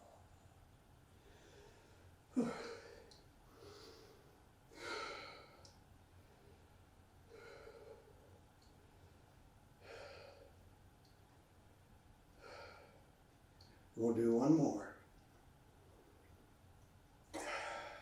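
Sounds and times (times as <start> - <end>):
soft breathing in and out: 0.0 - 13.9, 15.7 - 18.0.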